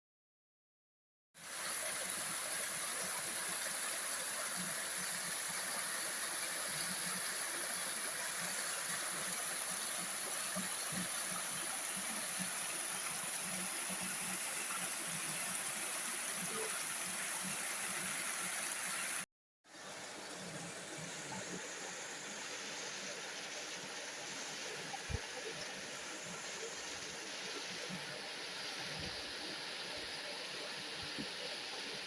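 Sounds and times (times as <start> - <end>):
stream flowing: 1.4 - 32.0.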